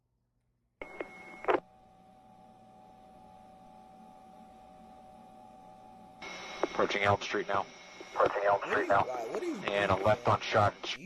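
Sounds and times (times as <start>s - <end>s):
electrical hum: 0.8s - 11.0s
faint whining tones: 0.8s - 11.0s.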